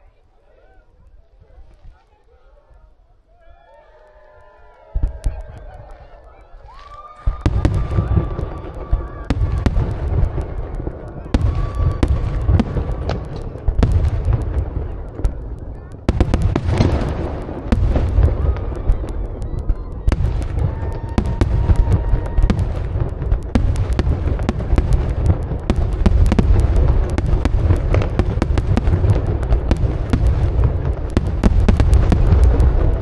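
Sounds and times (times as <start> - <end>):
fireworks cracks and bangs: 4.9 - 33.0.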